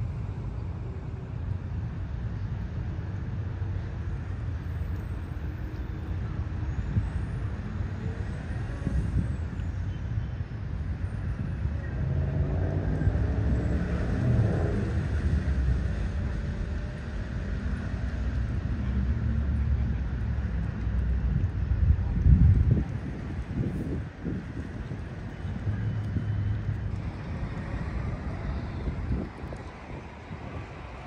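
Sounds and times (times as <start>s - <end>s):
low rumble of traffic: 0.0s - 31.0s.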